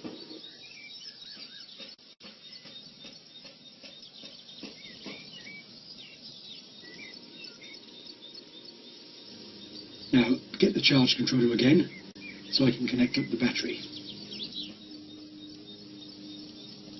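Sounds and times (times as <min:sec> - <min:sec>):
small birds chirping: 0:00.0 - 0:16.9
steady hiss: 0:00.0 - 0:16.9.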